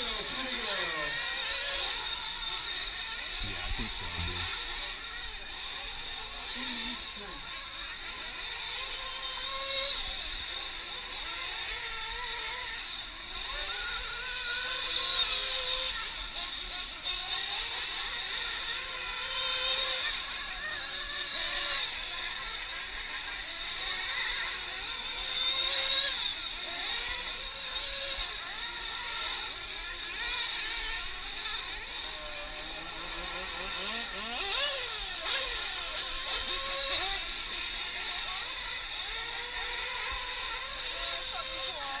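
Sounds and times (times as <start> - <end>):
rc truck engines whining: 0.0 - 42.0.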